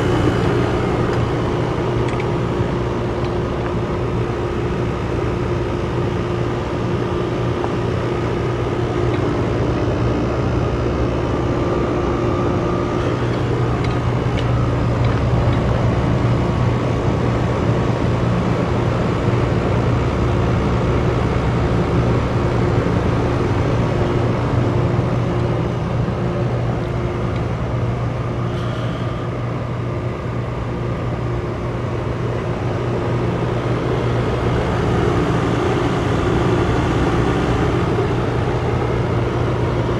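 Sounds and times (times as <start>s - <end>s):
heat pump mechanical hum: 0.0s - 39.9s.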